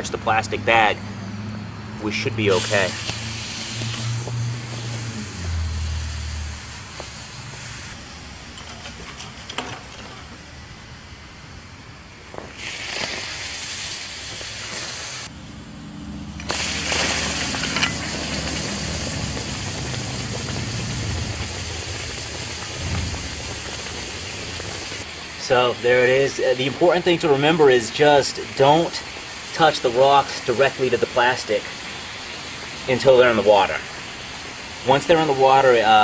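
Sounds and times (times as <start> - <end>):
hot stones sizzling in water: 2.2 - 10.8, 12.1 - 15.3, 16.4 - 36.0.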